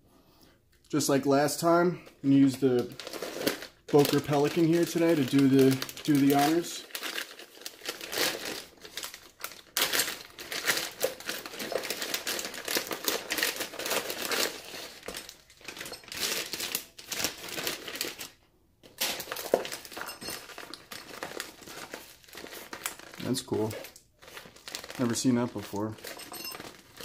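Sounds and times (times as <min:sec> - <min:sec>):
plastic bag crinkling and rustling: 0:01.0 - 0:27.0.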